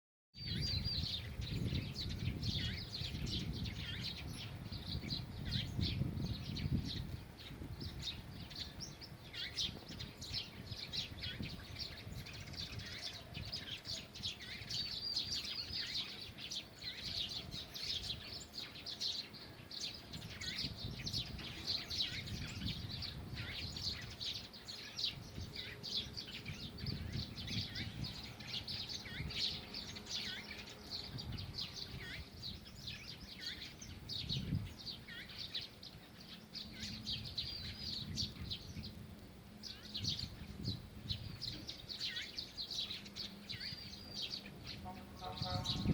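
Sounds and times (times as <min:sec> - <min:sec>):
small birds chirping and singing: 0:00.4 - 0:45.9.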